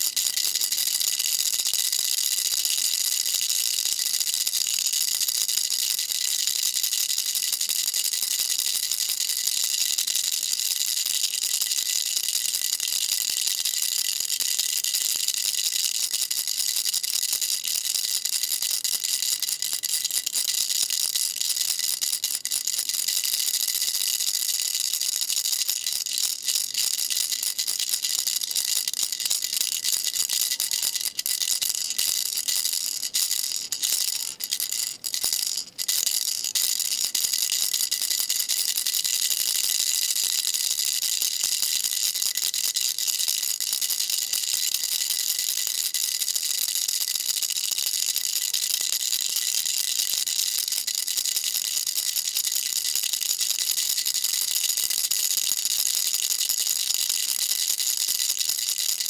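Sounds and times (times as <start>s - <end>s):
baby rattle shaking: 0.0s - 59.0s.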